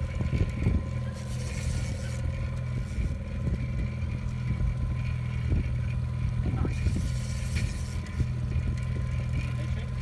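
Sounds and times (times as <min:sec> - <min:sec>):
outboard boat motor humming: 0:00.0 - 0:10.0.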